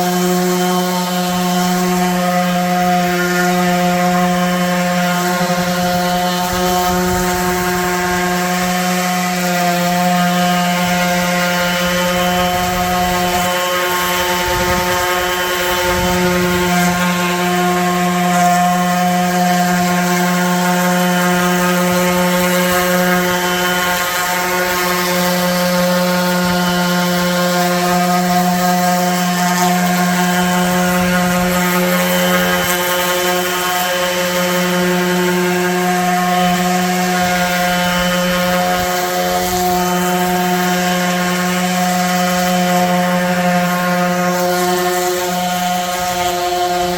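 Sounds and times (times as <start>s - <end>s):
electric sander on wood: 0.0s - 46.9s.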